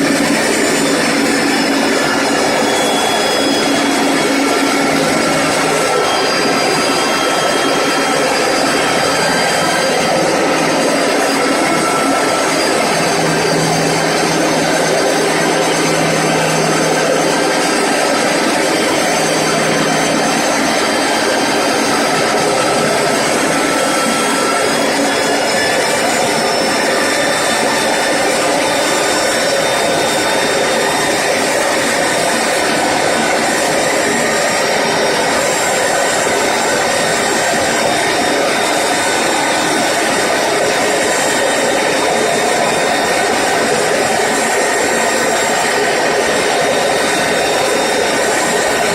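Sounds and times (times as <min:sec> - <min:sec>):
core drill grinding concrete: 0:00.0 - 0:48.9
faint high whine: 0:00.0 - 0:48.9.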